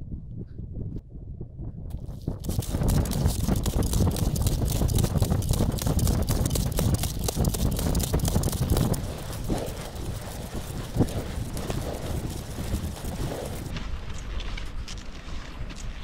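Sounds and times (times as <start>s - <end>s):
low rumble: 0.0s - 14.7s
sled runners scraping on snow: 1.9s - 16.0s.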